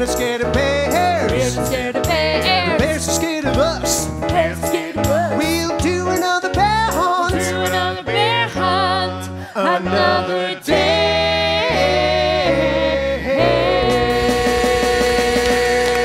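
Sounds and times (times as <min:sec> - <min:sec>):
man and woman singing: 0:00.0 - 0:16.0
musical backing with bass line: 0:00.0 - 0:16.0.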